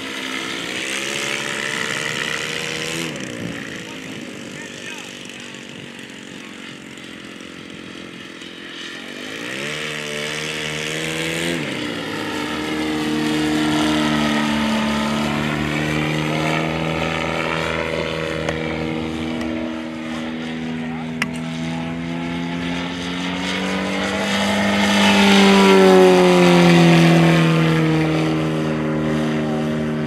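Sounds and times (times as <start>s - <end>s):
model plane engine running: 0.0s - 30.0s.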